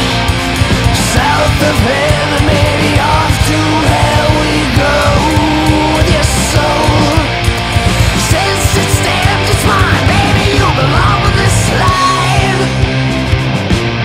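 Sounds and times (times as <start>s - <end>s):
electric guitars: 0.0s - 14.0s
pitch-bending guitar lines: 0.0s - 14.0s
pounding drums: 0.0s - 14.0s.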